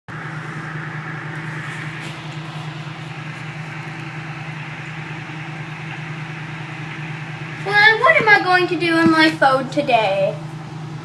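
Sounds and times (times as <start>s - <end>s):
noise hiss: 0.1s - 11.0s
steady low hum: 0.1s - 11.0s.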